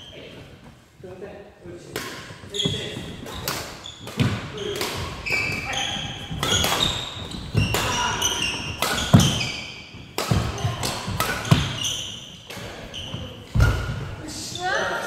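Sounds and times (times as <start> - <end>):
rackets hitting shuttlecock: 1.9 - 14.1
shoes squeaking: 2.4 - 15.0.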